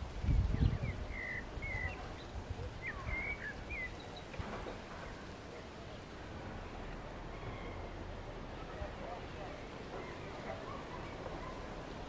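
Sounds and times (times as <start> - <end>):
small birds chirping: 0.0 - 8.0, 9.2 - 12.0
low outdoor background noise: 0.0 - 12.0.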